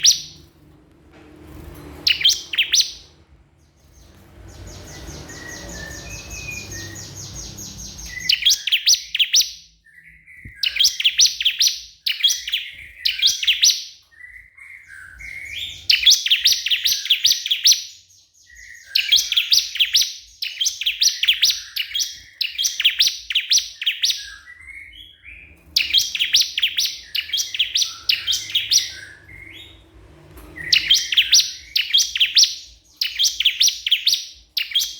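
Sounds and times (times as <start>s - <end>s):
bird twittering: 0.0s - 0.5s, 2.0s - 3.1s, 3.7s - 29.8s, 30.6s - 34.9s
bird singing sharp high notes: 2.0s - 3.1s, 3.8s - 29.8s, 30.6s - 34.9s.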